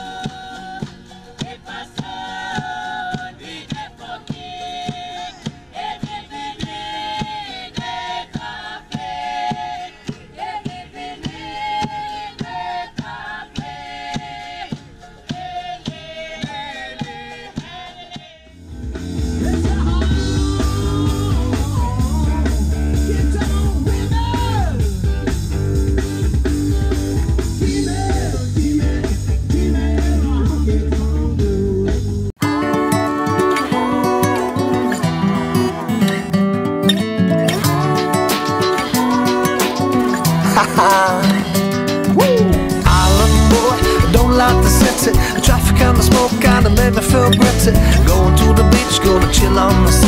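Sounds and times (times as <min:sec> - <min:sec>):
singing over a light beat: 0:00.0 - 0:18.6, 0:19.3 - 0:25.2, 0:27.3 - 0:36.5, 0:37.5 - 0:50.0
loud rock band with vocals: 0:00.0 - 0:50.0.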